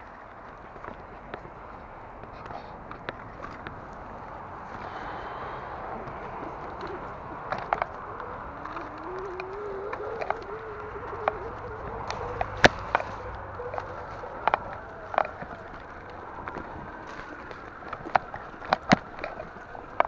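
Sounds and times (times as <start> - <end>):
bicycle tyre trail noise: 0.0 - 20.0
bike rattling over bumps: 0.0 - 20.0.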